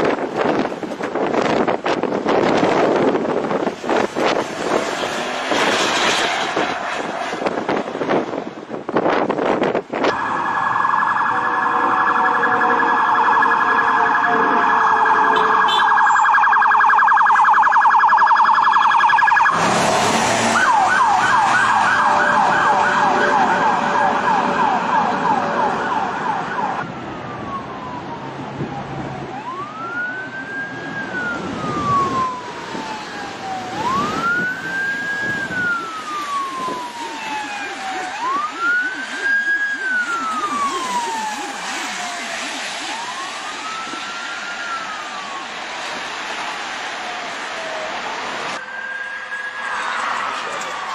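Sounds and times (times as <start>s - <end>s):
emergency vehicle siren: 0.0s - 50.9s.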